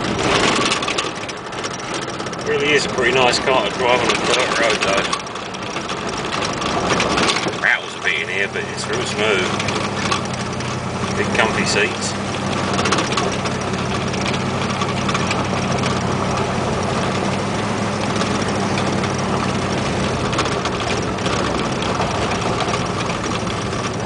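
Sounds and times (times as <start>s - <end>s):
car engine running: 0.0s - 24.0s
interior rattles: 0.0s - 24.0s
road noise: 0.0s - 24.0s.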